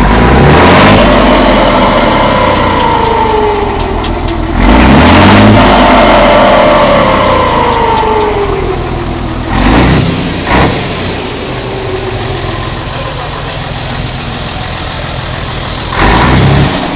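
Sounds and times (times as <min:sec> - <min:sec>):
diesel engine idling and revving: 0:00.0 - 0:16.9.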